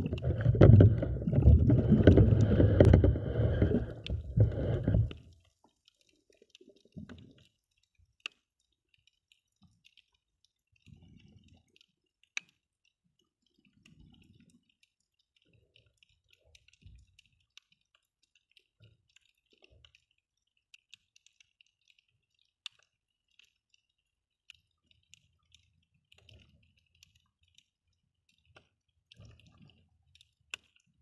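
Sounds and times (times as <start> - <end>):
sharp underwater clicks: 0.0 - 31.0
underwater crackle of clicks: 0.0 - 31.0.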